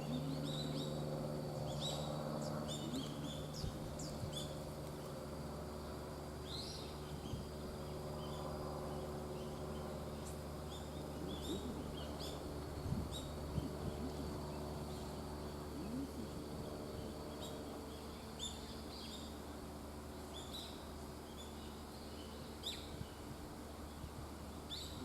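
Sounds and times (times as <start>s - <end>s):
small birds chirping: 0.0s - 5.2s, 5.9s - 23.3s
steady background noise: 0.0s - 25.0s.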